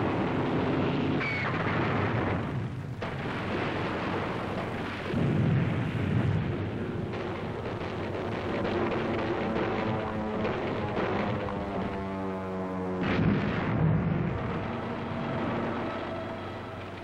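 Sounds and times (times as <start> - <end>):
explosions: 0.0 - 12.0, 13.0 - 17.0
anti-aircraft gunfire: 0.0 - 17.0.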